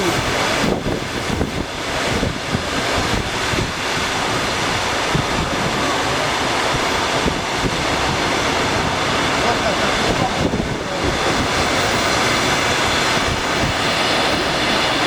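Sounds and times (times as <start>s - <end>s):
train wheel and rail noise: 0.0s - 15.0s
wind buffeting microphone: 0.0s - 15.0s.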